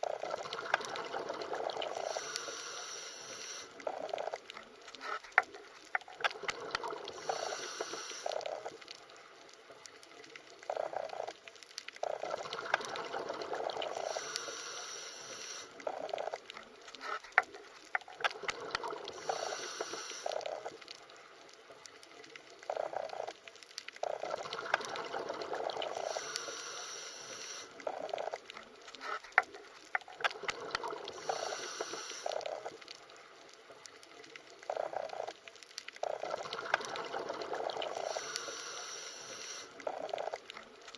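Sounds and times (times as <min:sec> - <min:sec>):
bubbling underwater water: 0:00.0 - 0:02.6, 0:03.7 - 0:14.6, 0:15.7 - 0:21.3, 0:21.9 - 0:26.6, 0:27.7 - 0:38.6, 0:39.5 - 0:40.9
sharp underwater clicks: 0:00.0 - 0:40.9.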